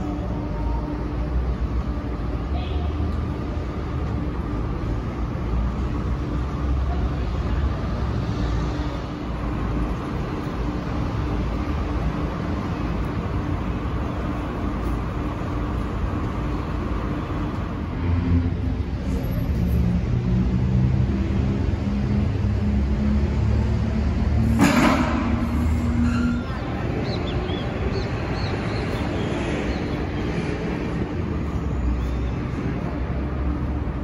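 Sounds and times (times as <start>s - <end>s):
distant road traffic rumble: 0.0s - 34.0s.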